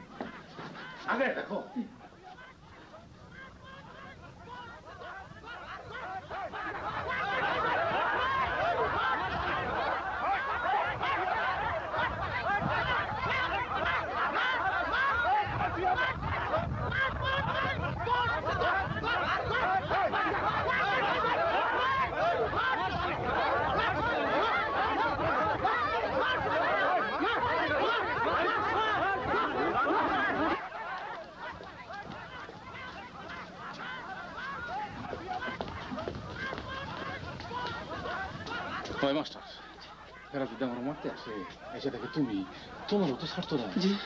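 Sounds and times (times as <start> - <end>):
crowd shouting: 0.0 - 44.0.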